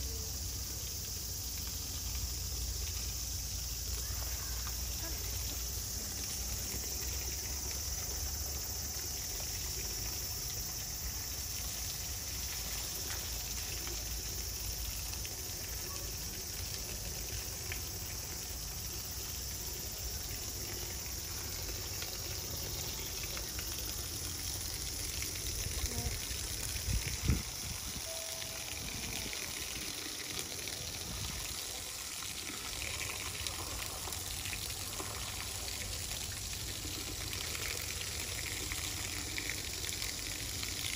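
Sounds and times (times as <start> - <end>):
hose jet spraying water: 0.0 - 40.9.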